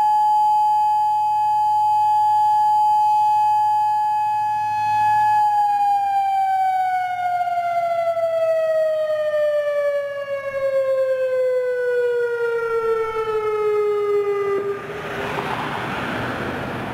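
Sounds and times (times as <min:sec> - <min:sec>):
warning siren winding down: 0:00.0 - 0:16.8.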